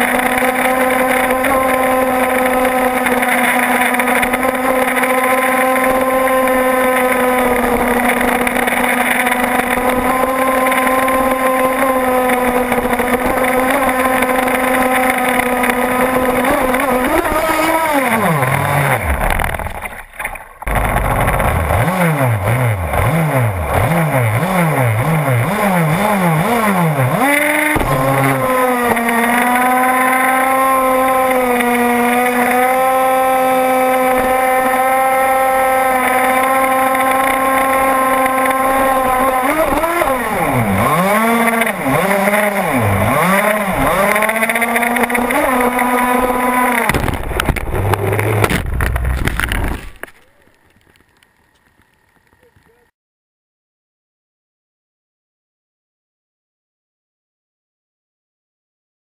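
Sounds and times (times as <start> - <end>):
small boat engine revving: 0.0 - 20.0, 20.6 - 49.6.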